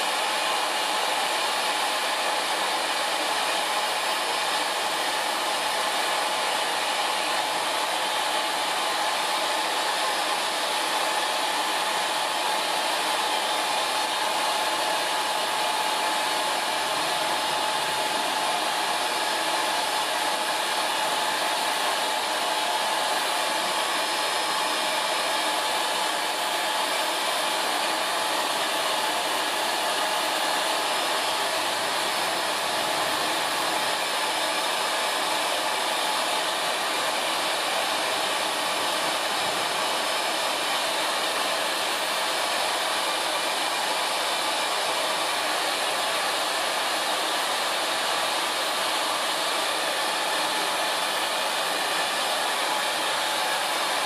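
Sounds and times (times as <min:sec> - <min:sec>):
pet hair dryer blowing: 0:00.0 - 0:54.0.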